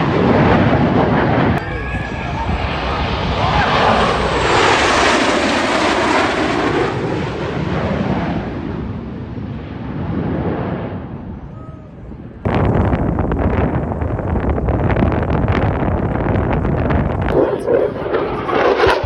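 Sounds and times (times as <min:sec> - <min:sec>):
jet aircraft passing by: 0:00.0 - 0:19.0
wind buffeting microphone: 0:00.0 - 0:19.0.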